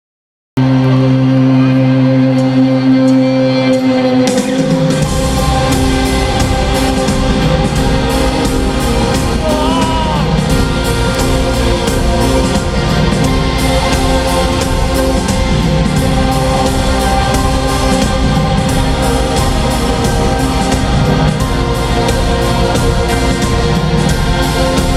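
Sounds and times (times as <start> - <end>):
live rock band: 0.6 - 24.9
person singing: 0.6 - 24.9
drums and bass beat: 4.3 - 24.9.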